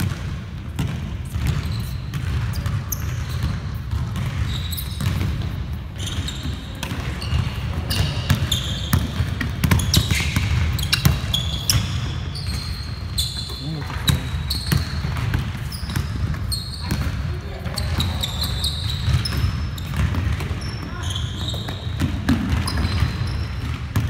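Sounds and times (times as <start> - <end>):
basketballs bouncing on hardwood: 0.0 - 24.0
sneaker squeaks: 0.8 - 24.0.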